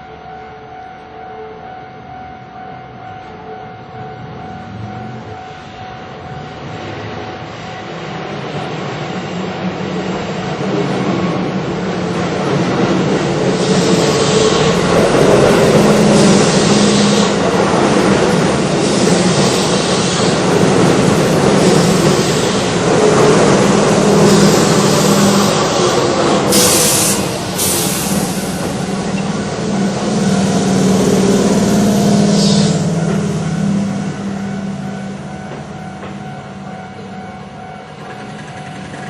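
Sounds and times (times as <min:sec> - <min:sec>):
level crossing warning bell: 0:00.0 - 0:08.0, 0:13.2 - 0:27.7, 0:28.5 - 0:39.0
train rumble and wheel noise: 0:00.0 - 0:39.0.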